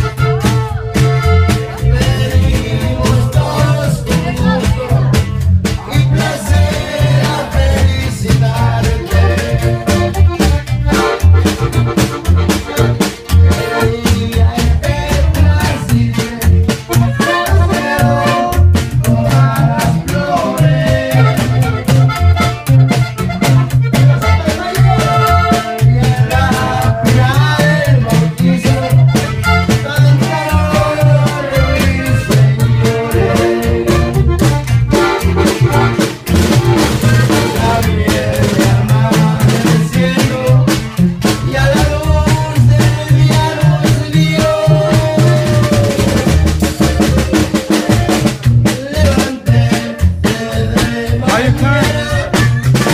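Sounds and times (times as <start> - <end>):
band music: 0.0 - 52.9
button accordion melody: 0.0 - 52.9
steady beat: 0.0 - 52.9
upright bass line: 0.0 - 52.9.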